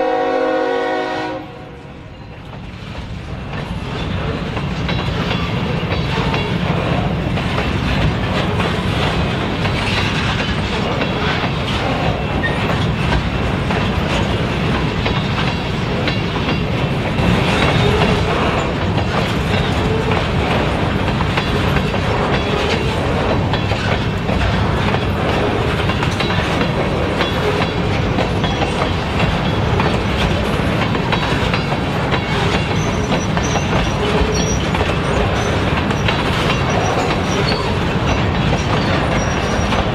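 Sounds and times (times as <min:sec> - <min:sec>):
train wheels clicking over rail joints: 0:02.1 - 0:39.9.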